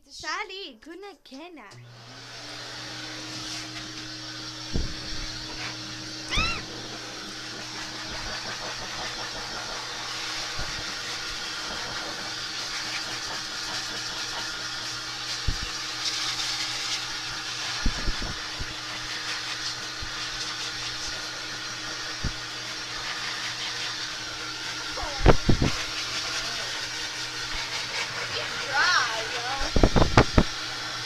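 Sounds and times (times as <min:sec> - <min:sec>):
hair dryer running: 0:01.7 - 0:31.0.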